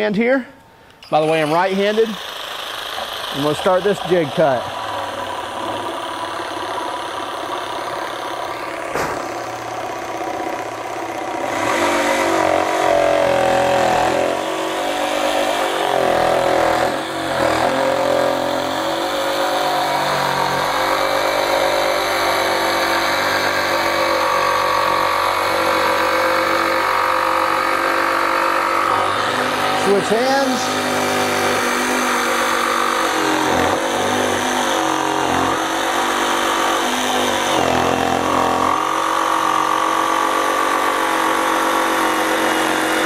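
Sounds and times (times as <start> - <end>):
cordless jigsaw cutting wood: 1.2 - 43.0.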